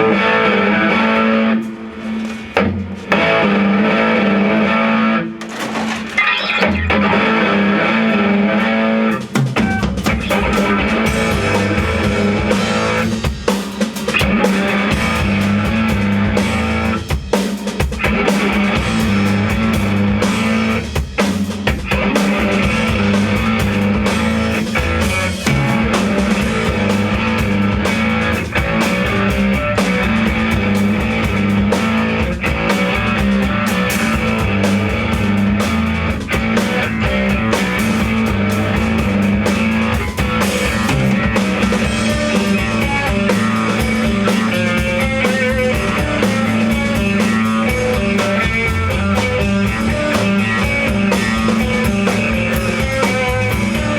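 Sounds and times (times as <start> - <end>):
guitar: 0.0 - 53.9
drum kit: 0.9 - 4.8, 5.4 - 53.9.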